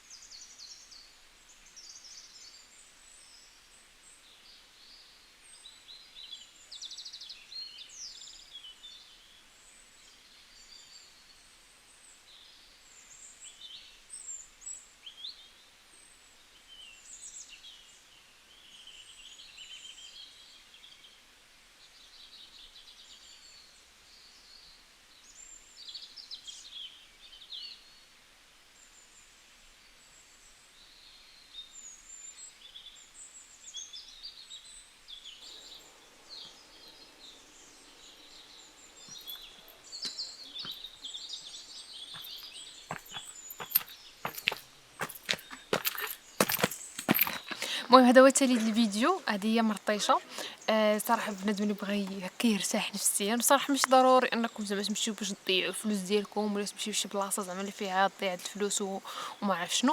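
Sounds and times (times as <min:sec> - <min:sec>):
small birds singing: 0:00.0 - 0:28.2, 0:28.8 - 0:59.9
faint outdoor background noise: 0:00.0 - 0:59.9.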